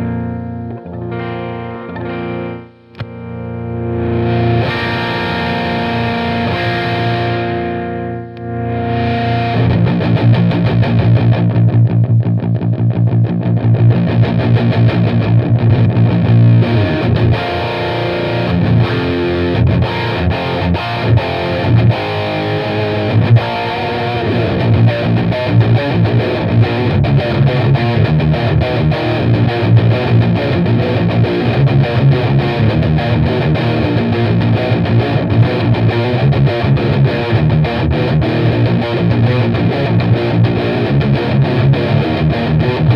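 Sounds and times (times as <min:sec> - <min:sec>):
distorted electric guitar riffs: 0:00.0 - 0:42.9.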